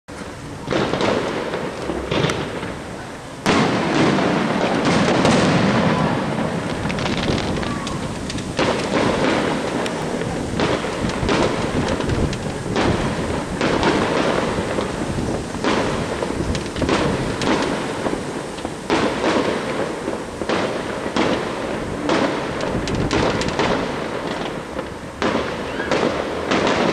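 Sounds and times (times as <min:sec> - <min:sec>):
firework bangs: 0:00.1 - 0:26.9
firework crackling: 0:00.1 - 0:26.9.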